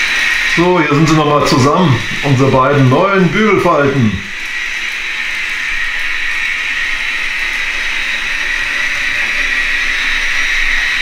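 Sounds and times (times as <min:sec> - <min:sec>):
model trains whirring: 0:00.0 - 0:11.0.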